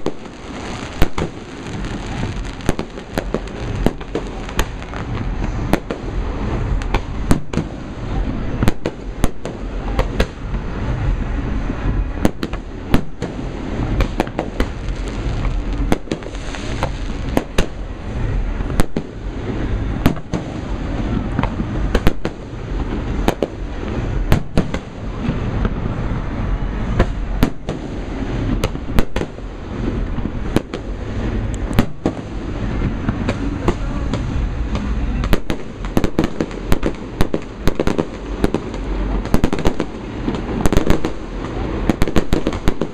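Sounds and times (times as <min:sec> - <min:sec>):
firework shell bursts and bangs: 0:00.0 - 0:11.2, 0:11.8 - 0:26.2, 0:26.9 - 0:42.9
low rumble of echoing booms: 0:00.0 - 0:42.9.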